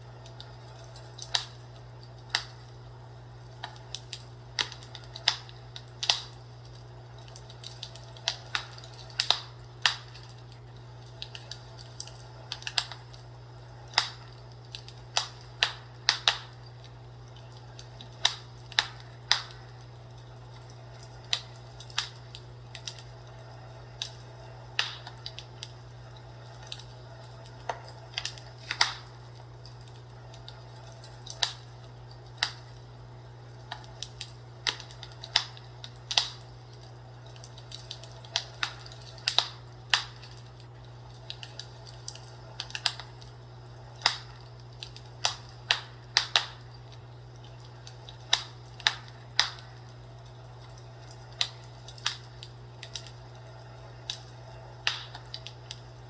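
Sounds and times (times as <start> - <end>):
fireplace crackling: 0.0 - 56.0
steady low hum: 0.0 - 56.0.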